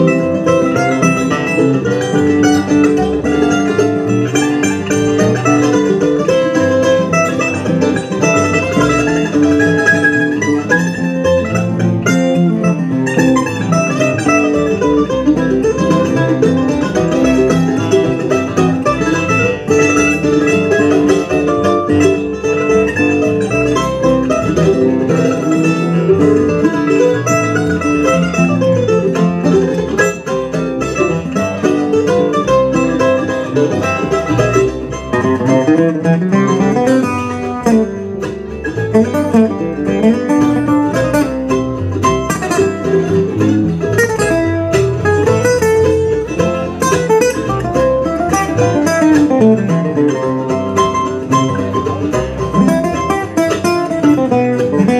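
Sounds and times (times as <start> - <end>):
acoustic guitars picking: 0.0 - 54.9
mandolin: 0.0 - 54.9
upright bass: 0.0 - 54.9.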